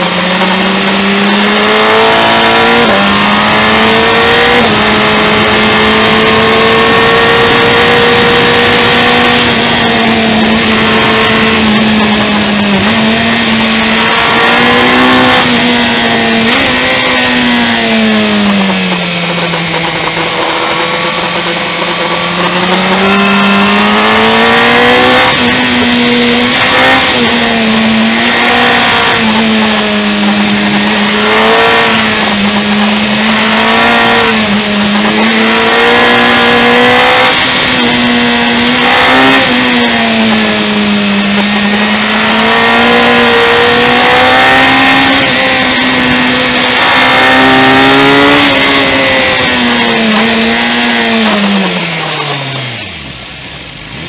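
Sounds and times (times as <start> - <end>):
motorcycle engine revving: 0.0 - 54.0
wind noise: 0.4 - 52.8.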